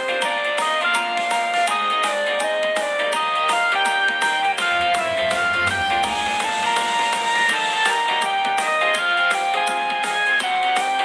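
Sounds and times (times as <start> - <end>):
instrumental theme music: 0.0 - 11.0.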